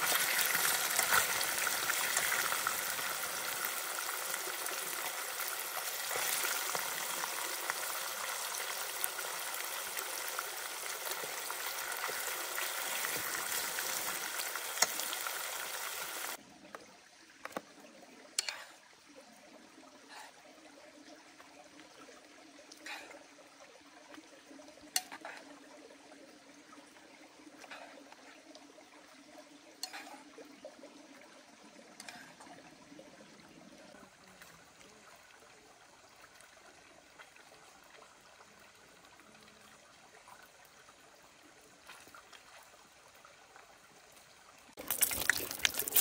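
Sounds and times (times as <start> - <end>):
faint trickling stream: 0.0 - 46.0.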